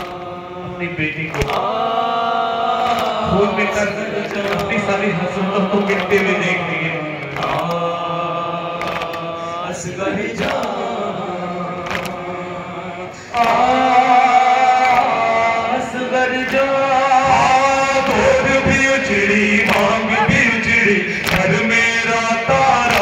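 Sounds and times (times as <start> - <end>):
men singing a lament over loudspeaker: 0.0 - 23.0.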